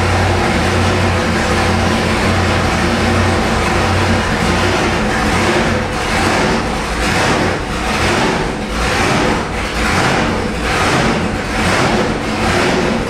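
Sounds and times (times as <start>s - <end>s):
engine idling rhythmically: 0.0s - 13.0s.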